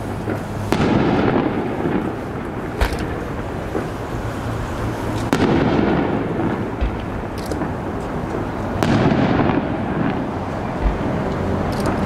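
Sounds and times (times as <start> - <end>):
firework bangs: 0.0 - 12.0
low rolling rumble: 0.0 - 12.0.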